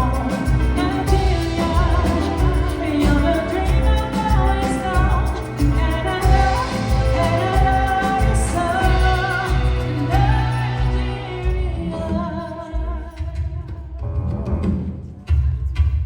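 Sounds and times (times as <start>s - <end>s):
woman singing with vibrato: 0.0s - 14.2s
soul band with bass pulse: 0.0s - 15.0s.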